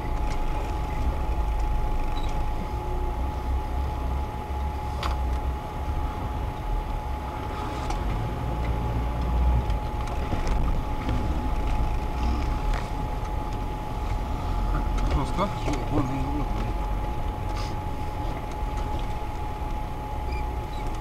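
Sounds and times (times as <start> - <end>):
thin steady whine: 0.0 - 21.0
vehicle engine rumbling: 0.0 - 21.0.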